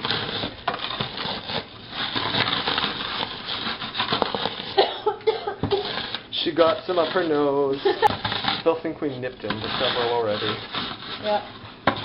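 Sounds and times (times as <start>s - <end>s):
can scraping on wooden board: 0.0s - 4.8s, 5.5s - 12.0s
crackers crunching: 0.0s - 12.0s.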